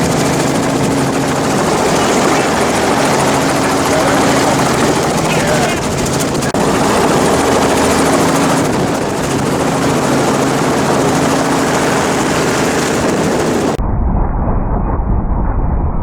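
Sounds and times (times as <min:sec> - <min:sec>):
helicopter rotor and turbine drone: 0:00.0 - 0:13.8.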